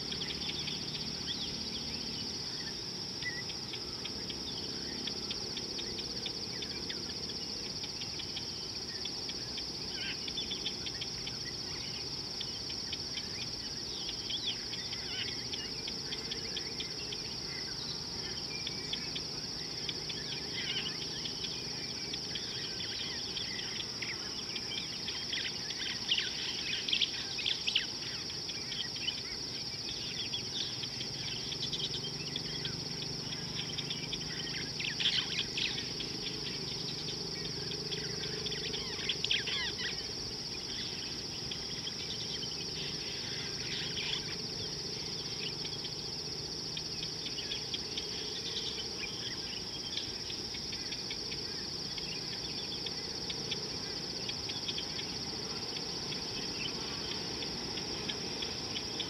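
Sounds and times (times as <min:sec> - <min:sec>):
high-pitched insect chorus: 0:00.0 - 0:59.0
low background noise: 0:00.0 - 0:59.0.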